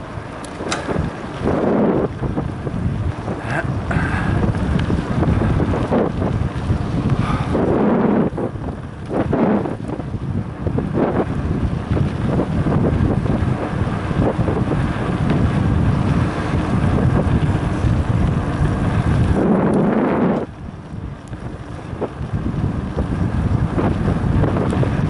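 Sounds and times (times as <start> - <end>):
bike rattling over dirt road: 0.0 - 25.0
wind buffeting microphone: 0.0 - 25.0.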